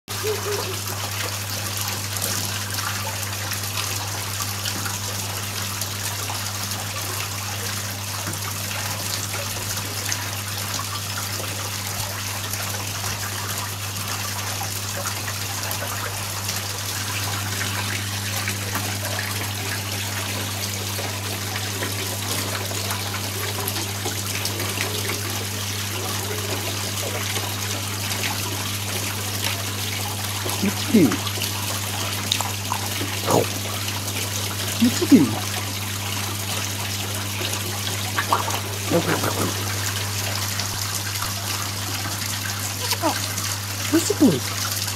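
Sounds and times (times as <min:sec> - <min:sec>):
running water trickling: 0:00.1 - 0:44.9.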